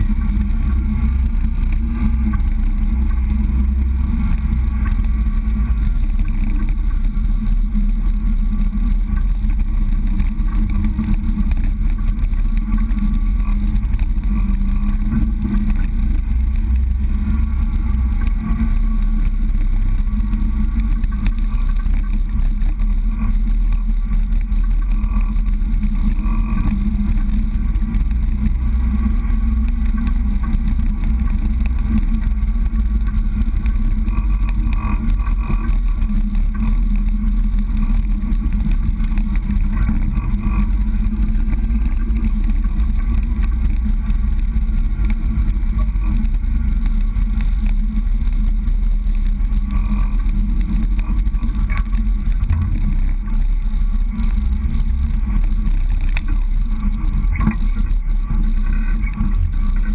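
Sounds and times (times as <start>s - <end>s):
motor running drone: 0.0s - 59.9s.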